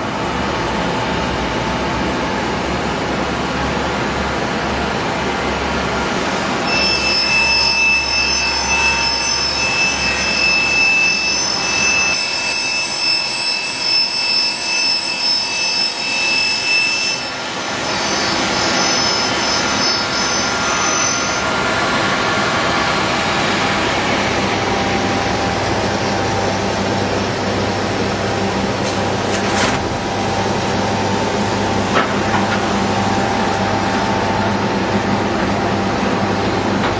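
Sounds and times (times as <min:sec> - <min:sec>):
high whine: 0:00.0 - 0:36.9.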